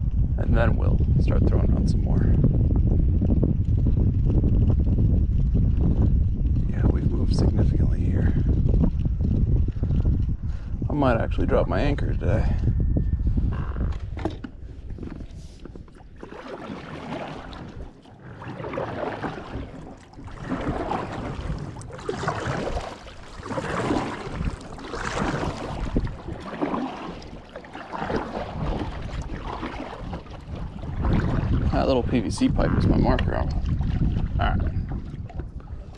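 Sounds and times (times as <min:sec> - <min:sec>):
water lapping against a boat: 0:00.0 - 0:35.9
wind: 0:00.0 - 0:35.9.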